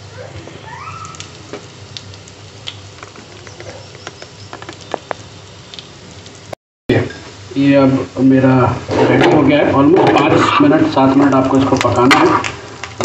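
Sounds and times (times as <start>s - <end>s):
oil popping and crackling: 0.0s - 6.6s, 8.8s - 13.0s
patties sizzling in oil: 0.0s - 13.0s.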